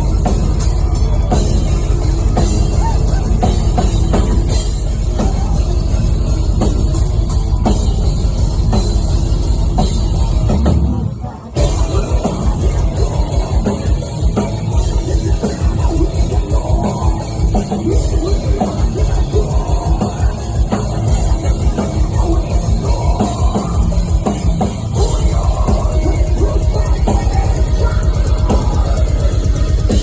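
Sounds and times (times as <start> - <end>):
heavy metal band playing: 0.0 - 30.0.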